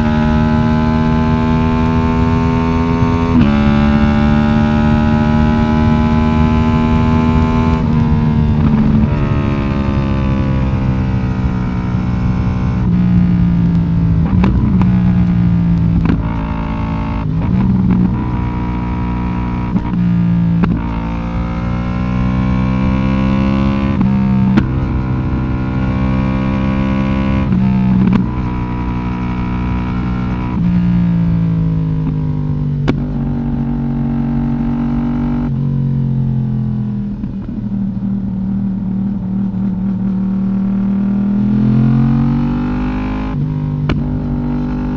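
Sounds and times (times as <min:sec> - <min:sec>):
motorcycle exhaust revving: 0:00.0 - 0:44.9.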